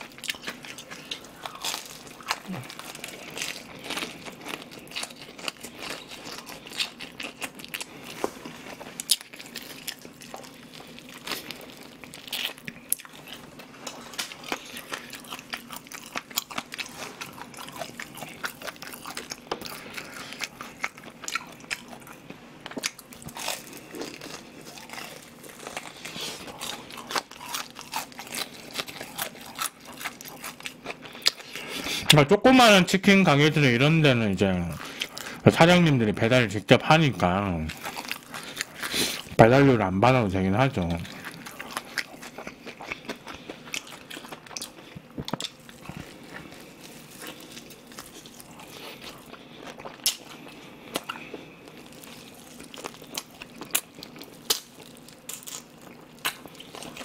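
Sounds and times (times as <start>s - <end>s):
chewing crispy fried chicken: 0.0s - 57.0s.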